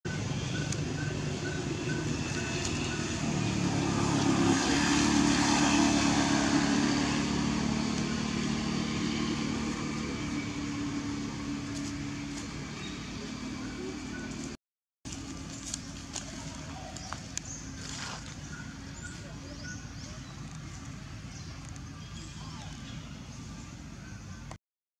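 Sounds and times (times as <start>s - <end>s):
passing vehicle engine hum: 0.1s - 24.6s.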